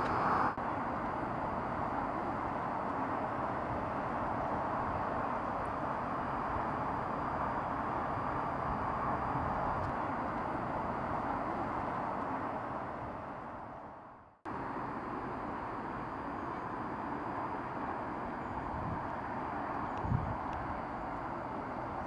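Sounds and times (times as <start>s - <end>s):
car driving: 0.0s - 22.0s
outdoor background noise: 0.0s - 22.0s.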